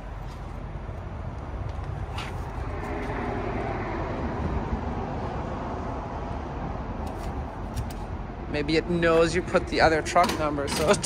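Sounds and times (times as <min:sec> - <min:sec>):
diesel truck engines idling: 0:00.0 - 0:11.0.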